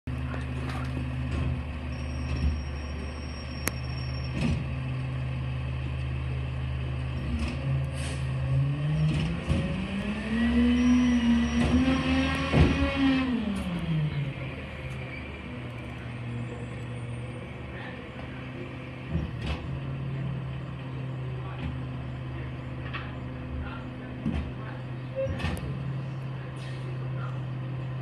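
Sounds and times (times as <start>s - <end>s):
diesel engine idling and revving: 0.1s - 28.0s.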